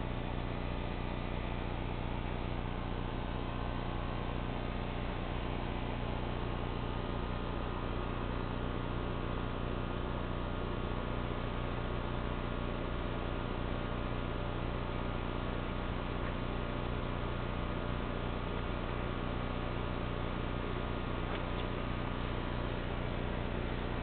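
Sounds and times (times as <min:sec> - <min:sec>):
low even hum: 0:00.0 - 0:24.0.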